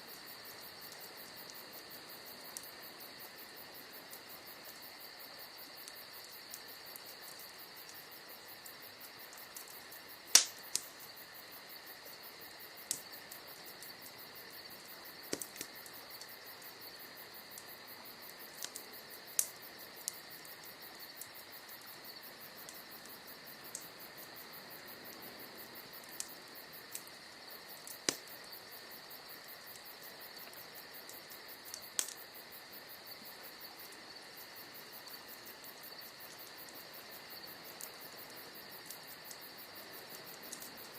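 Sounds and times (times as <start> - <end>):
crickets chirping: 0.0 - 40.9
wood fire crackling and popping: 0.0 - 40.9.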